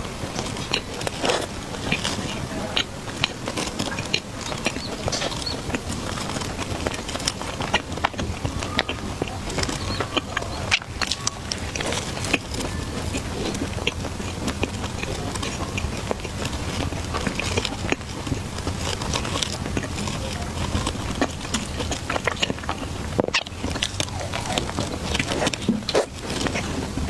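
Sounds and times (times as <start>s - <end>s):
chewing with crackles: 0.0s - 27.0s.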